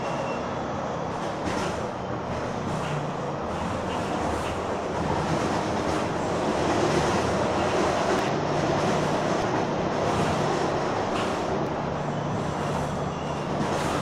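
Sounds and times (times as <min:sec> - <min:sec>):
train rattling along track: 0:00.0 - 0:14.0.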